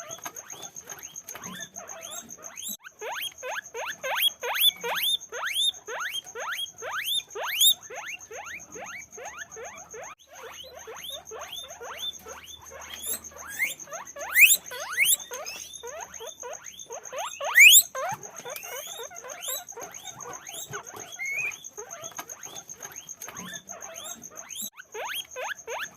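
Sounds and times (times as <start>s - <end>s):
guinea pigs wheeking: 0.0s - 25.9s.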